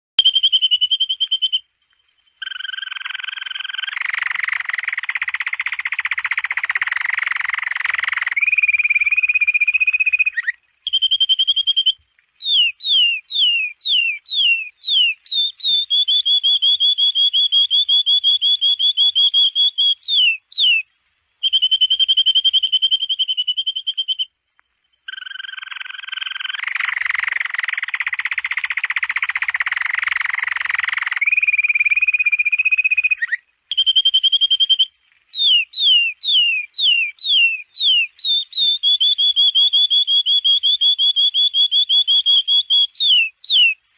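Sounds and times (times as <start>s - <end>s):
canary singing trills: 0.2s - 43.8s.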